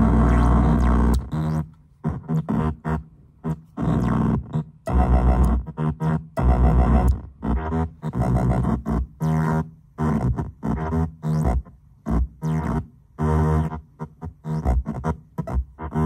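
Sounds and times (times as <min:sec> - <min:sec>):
choppy electronic tones: 0:00.0 - 0:16.0.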